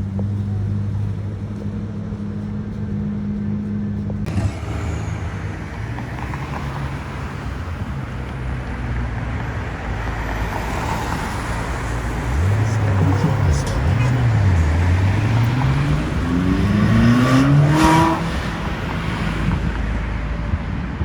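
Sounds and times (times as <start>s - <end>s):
car engine idling: 0.0s - 21.0s
road traffic noise: 0.0s - 21.0s.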